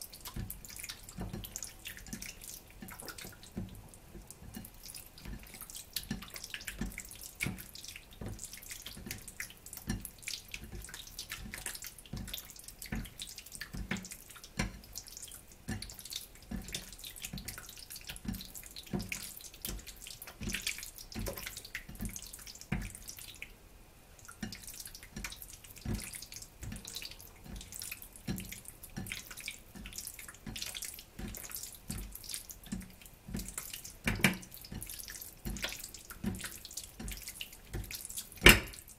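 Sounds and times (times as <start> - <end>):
wet squelches of kneading meat: 0.0 - 38.9.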